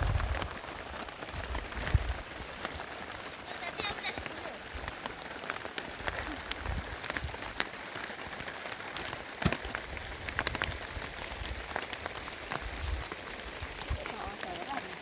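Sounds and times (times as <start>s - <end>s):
heavy rain falling: 0.0s - 15.0s
raindrops ticking on a surface: 0.0s - 15.0s.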